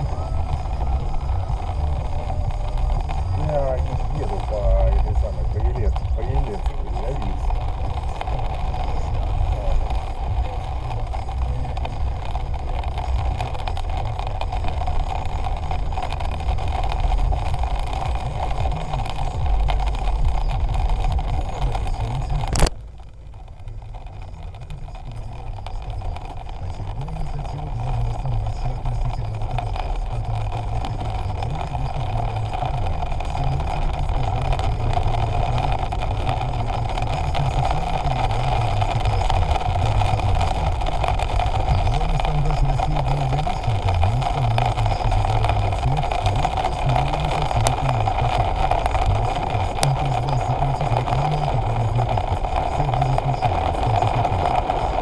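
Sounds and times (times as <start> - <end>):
vehicle engine rumble and drone: 0.0 - 55.0.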